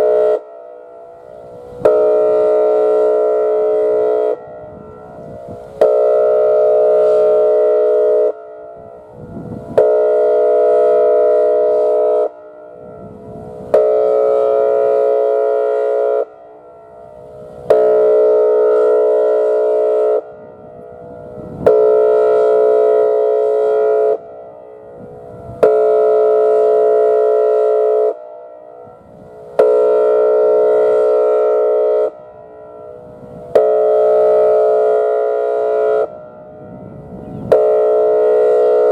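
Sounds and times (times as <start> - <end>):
warning siren horn blasts: 0.0 - 38.9.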